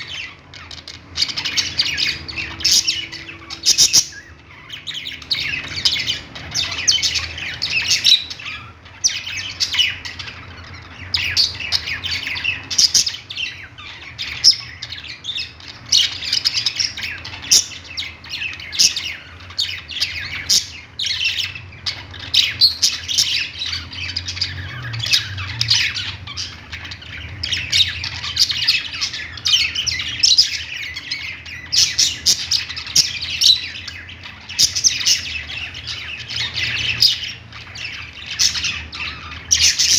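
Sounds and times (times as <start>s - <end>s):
budgerigars chattering and squawking: 0.0s - 39.9s
faint low hum: 0.0s - 39.9s.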